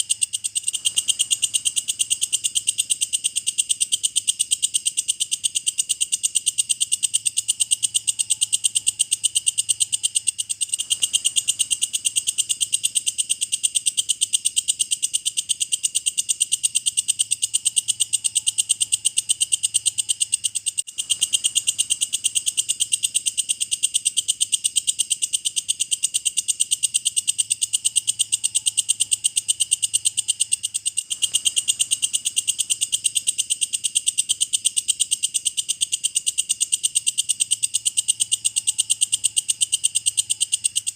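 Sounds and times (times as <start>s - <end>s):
bush cricket clicking: 0.0s - 40.9s.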